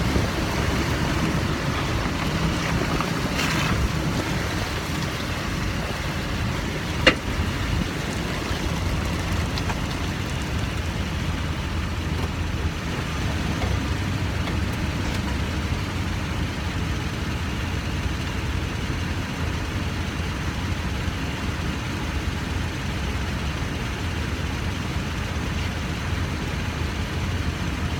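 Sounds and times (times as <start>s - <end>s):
pickup engine and road noise: 0.0s - 27.9s.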